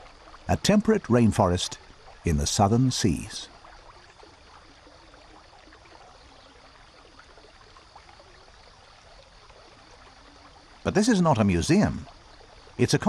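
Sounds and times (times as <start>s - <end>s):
soft rainforest hiss: 0.0s - 13.0s.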